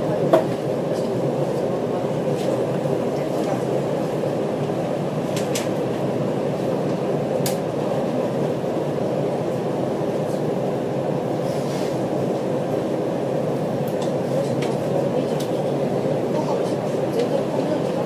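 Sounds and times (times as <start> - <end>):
train car ventilation hum: 0.0 - 18.0.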